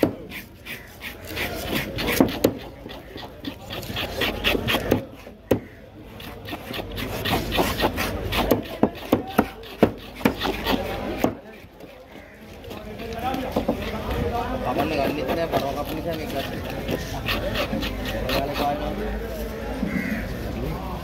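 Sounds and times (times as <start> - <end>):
knife slicing through fish: 0.0 - 11.5, 12.6 - 19.0.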